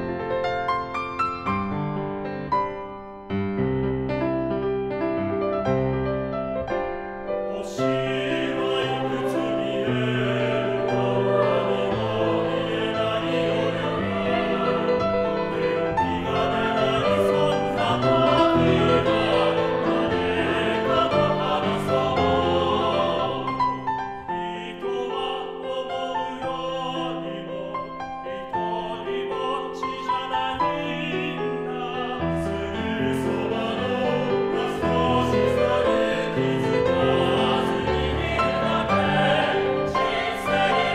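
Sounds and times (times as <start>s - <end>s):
piano accompaniment: 0.0s - 40.9s
choir singing in harmony: 7.3s - 40.9s.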